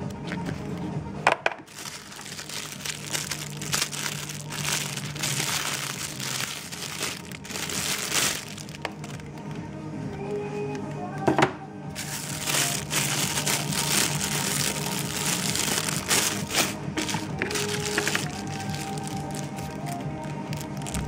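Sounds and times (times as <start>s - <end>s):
sharp plastic crackle: 1.4s - 10.3s, 12.0s - 21.0s
plastic bags crinkling: 1.7s - 9.6s, 12.0s - 21.0s.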